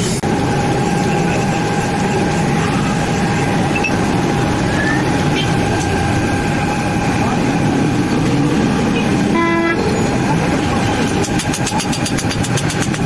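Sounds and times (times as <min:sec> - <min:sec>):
continuous mid-pitched hum: 0:00.0 - 0:13.0
traffic rumble: 0:00.0 - 0:13.0.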